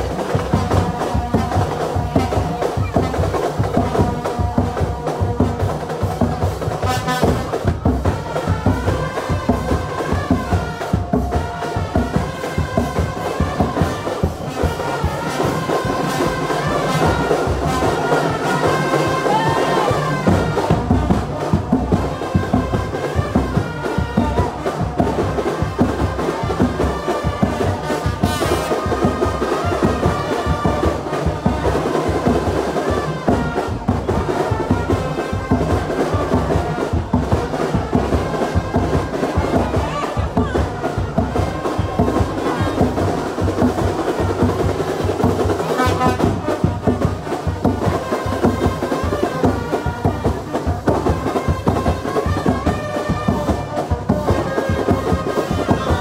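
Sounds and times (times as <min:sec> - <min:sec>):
brass horns playing melody: 0:00.0 - 0:56.0
marching drums and percussion: 0:00.0 - 0:56.0.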